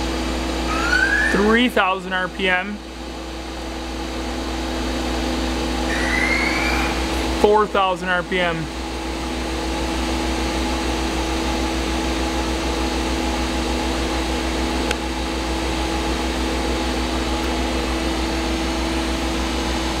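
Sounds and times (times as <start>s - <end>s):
machine spindle humming: 0.0s - 20.0s.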